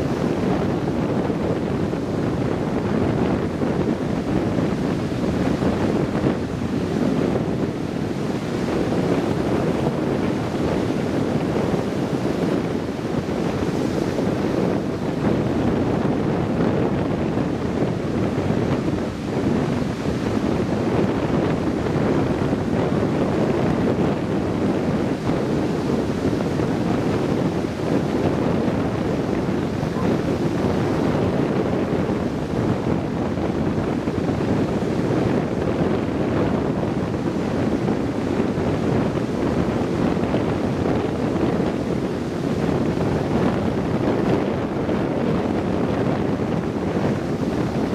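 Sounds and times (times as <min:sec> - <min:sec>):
heavy surf breaking: 0:00.0 - 0:47.9
wind buffeting microphone: 0:00.0 - 0:47.9.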